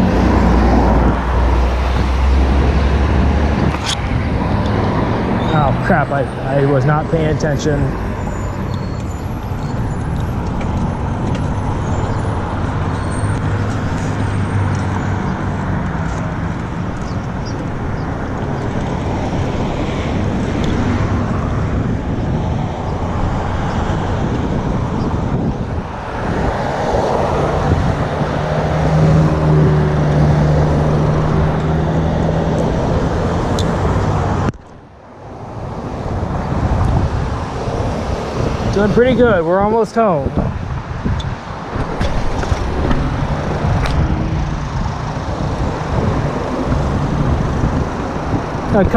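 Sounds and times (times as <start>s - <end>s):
cars passing: 0.0s - 48.9s.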